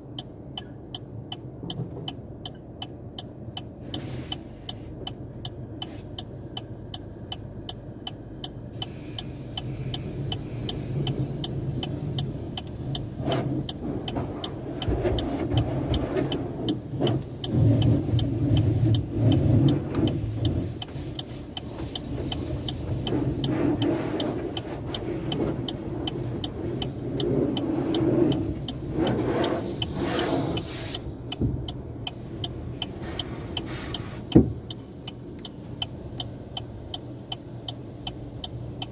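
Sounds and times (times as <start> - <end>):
car wash machinery rumble and spray: 0.0 - 38.9
faint steady ticking: 0.0 - 38.9.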